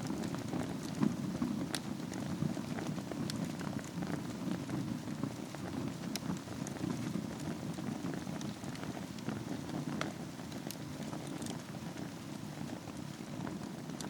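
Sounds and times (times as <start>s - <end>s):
fire crackling and popping: 0.0s - 14.0s
fire flames rushing: 0.0s - 14.0s.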